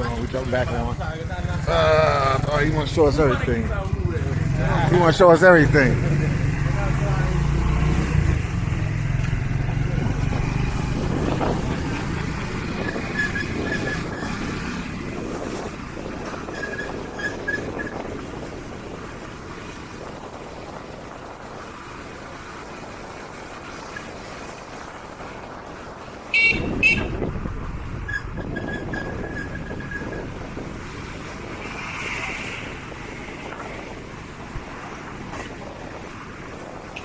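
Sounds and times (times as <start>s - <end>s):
vehicle engine and wind noise: 0.0s - 37.0s.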